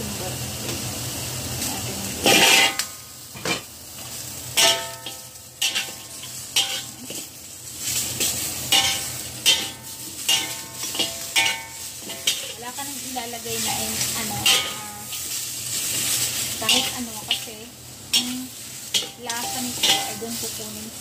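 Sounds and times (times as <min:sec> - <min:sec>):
food sizzling in oil: 0:00.0 - 0:21.0
metal spatula scraping a wok: 0:02.2 - 0:21.0.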